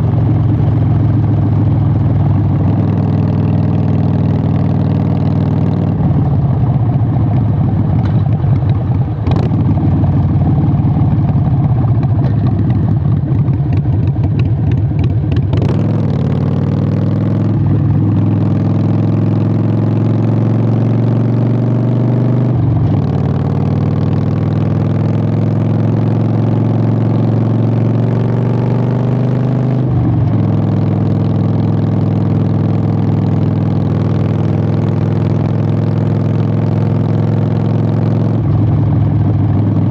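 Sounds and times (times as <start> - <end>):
motorcycle engine rumbling: 0.0 - 29.2, 29.8 - 39.9
motorcycle accelerating: 0.0 - 39.9.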